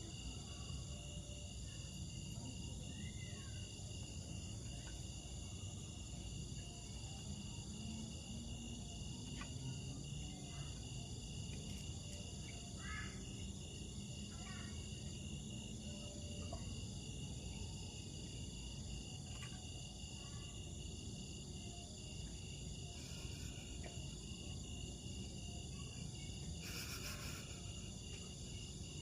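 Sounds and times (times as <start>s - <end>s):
crickets buzzing: 1.0s - 29.0s.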